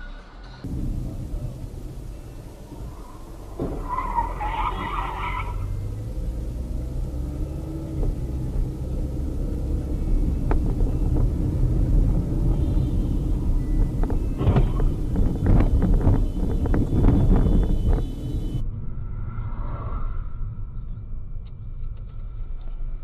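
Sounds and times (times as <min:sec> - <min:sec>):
car driving rumble: 0:00.5 - 0:23.0.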